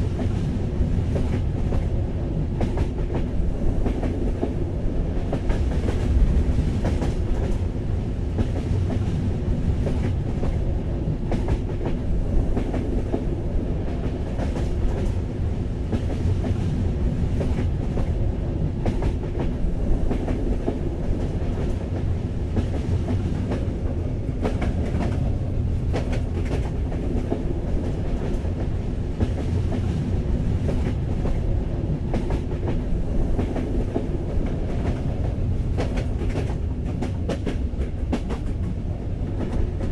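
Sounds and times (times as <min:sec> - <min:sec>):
rail clicks and knocks: 0:00.0 - 0:39.9
train wheels rumbling: 0:00.0 - 0:39.9.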